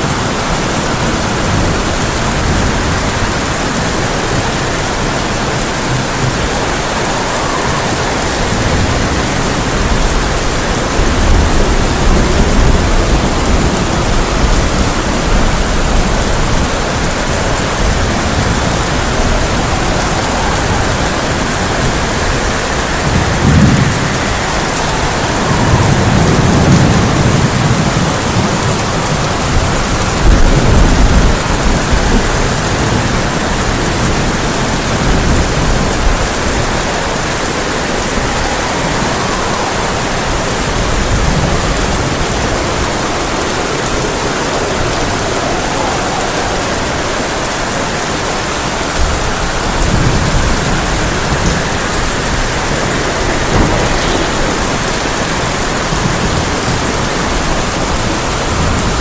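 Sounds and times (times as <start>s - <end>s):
heavy rain on a tin roof: 0.0s - 59.0s
thunder rumbling: 0.0s - 59.0s.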